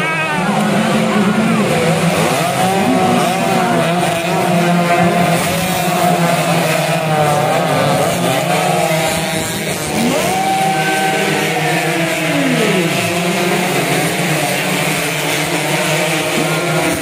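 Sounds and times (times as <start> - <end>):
moped engines revving: 0.0 - 17.0.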